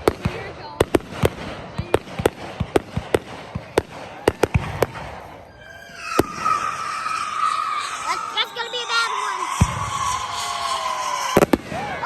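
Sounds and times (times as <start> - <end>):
fireworks bangs and cracks: 0.0 - 12.0
small fireworks pops: 0.0 - 12.0.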